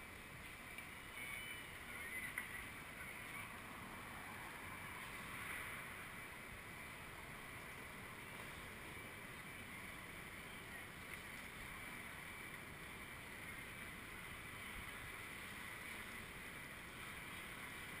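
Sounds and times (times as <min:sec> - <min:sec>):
distant traffic noise: 0:00.0 - 0:18.0.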